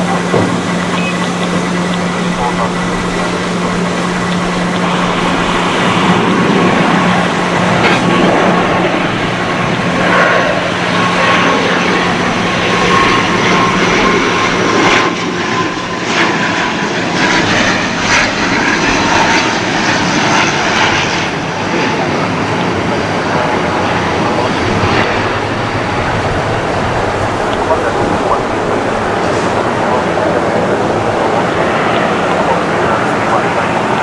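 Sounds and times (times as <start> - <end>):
turboprop engines droning: 0.0 - 34.0.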